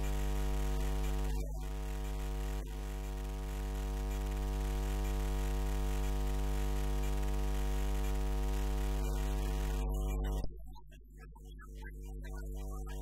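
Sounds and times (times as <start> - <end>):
electrical mains hum: 0.0 - 11.1.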